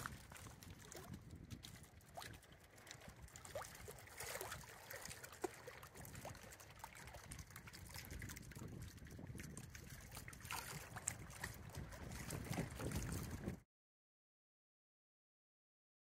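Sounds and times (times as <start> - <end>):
faint trickling water: 0.0 - 13.6.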